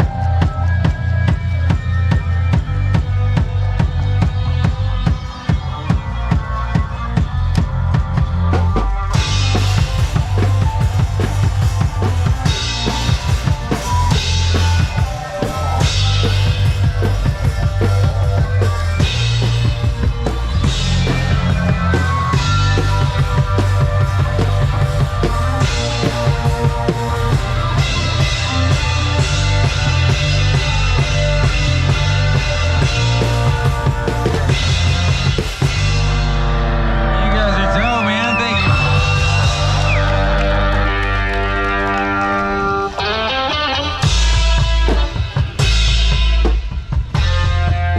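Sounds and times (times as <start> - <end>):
one-man band playing: 0.0 - 47.9.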